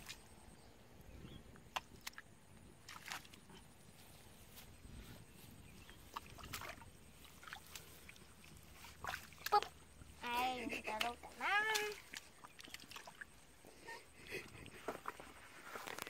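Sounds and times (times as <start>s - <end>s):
muddy water sloshing and splashing: 0.0s - 0.5s, 1.6s - 4.5s, 5.3s - 16.0s.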